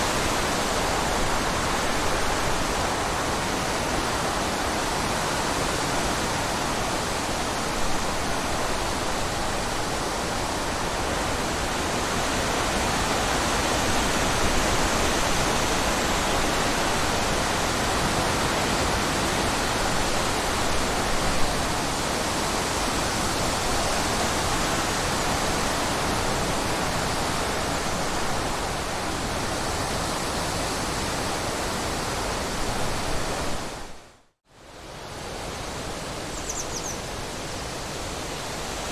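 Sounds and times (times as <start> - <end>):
falling water rushing: 0.0 - 34.0.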